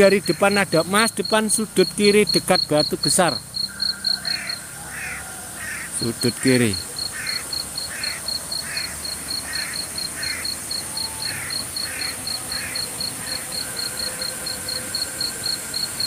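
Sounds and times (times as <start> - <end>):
insect hiss: 0.0 - 16.0
insects chirping: 0.0 - 16.0.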